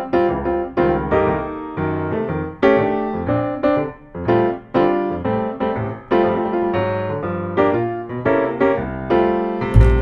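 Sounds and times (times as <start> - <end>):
lively piano tune: 0.0 - 10.0.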